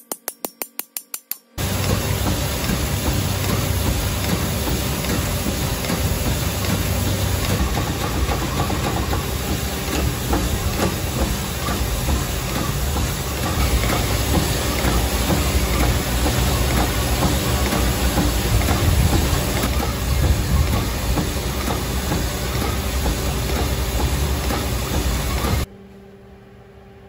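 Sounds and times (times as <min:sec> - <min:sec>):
abrasive honing hiss: 0:01.6 - 0:25.6
low motor hum: 0:01.6 - 0:27.0.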